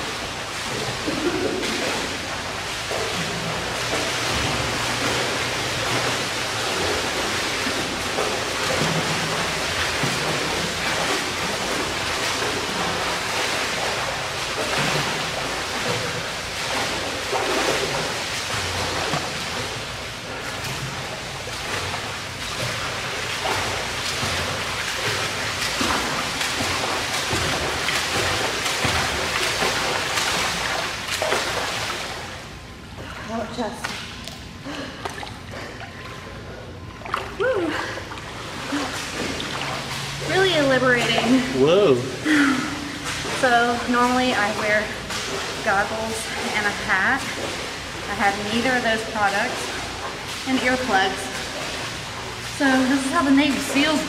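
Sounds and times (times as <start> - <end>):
rushing water noise: 0.0 - 32.8, 37.0 - 54.0
swimmer's strokes splashing: 0.0 - 32.9, 33.7 - 54.0.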